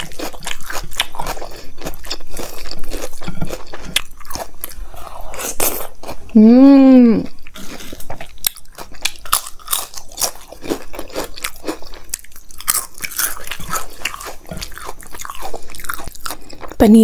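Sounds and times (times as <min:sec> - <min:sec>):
crunching and chewing crisp food: 0:00.0 - 0:06.4, 0:07.2 - 0:16.8.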